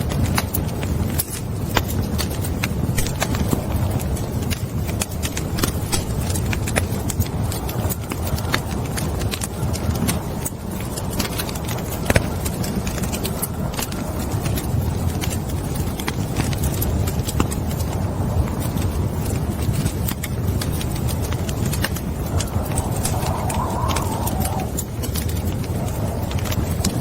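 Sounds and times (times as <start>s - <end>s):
low rumble of flames: 0.0s - 27.0s
wood fire crackling and popping: 0.0s - 27.0s.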